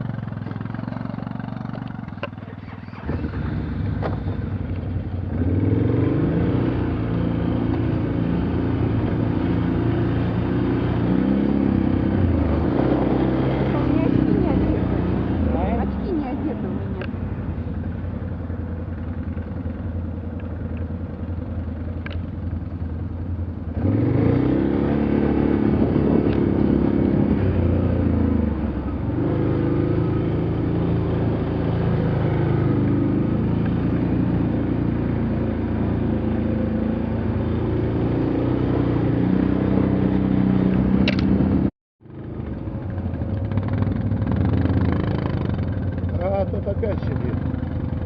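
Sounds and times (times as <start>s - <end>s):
off-road vehicle engine revving: 0.0s - 4.6s, 5.2s - 17.1s, 23.7s - 41.7s, 43.5s - 48.0s.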